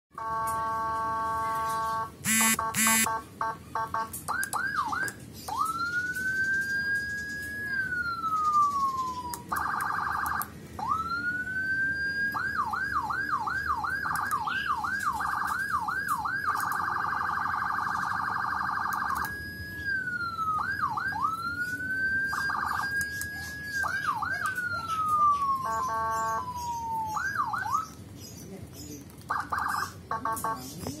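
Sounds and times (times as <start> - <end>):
electronic siren cycling tones: 0.2 - 3.2, 3.8 - 27.9.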